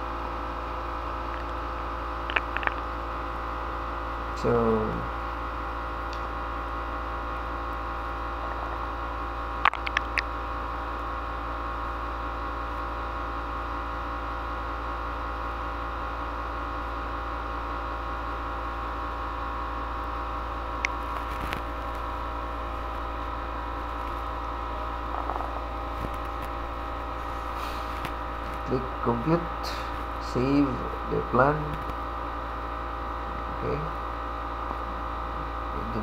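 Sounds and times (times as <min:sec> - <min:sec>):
electrical hum and hiss: 0:00.0 - 0:36.0.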